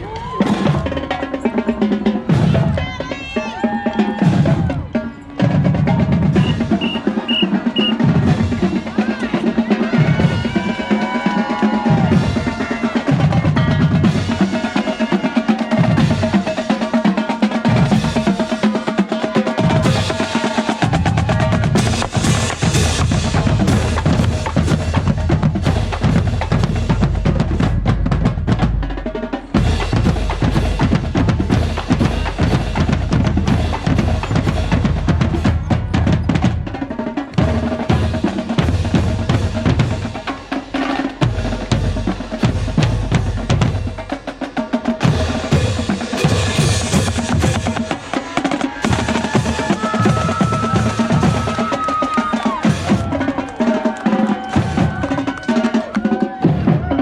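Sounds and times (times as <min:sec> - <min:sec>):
marching drumline cadence: 0:00.0 - 0:57.0.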